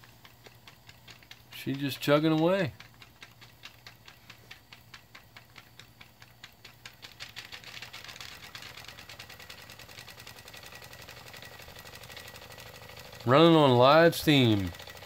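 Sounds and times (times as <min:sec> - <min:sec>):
model steam engine chugging: 0:00.0 - 0:15.0.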